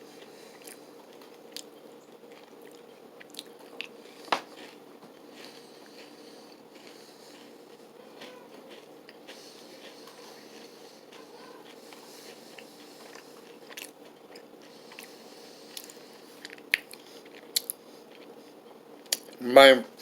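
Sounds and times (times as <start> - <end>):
person chewing crunchy cookie: 0.0 - 19.4.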